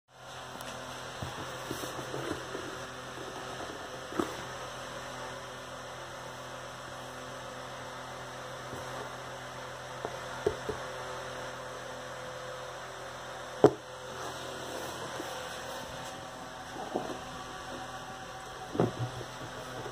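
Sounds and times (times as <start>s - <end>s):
steady low hum: 0.1s - 19.9s.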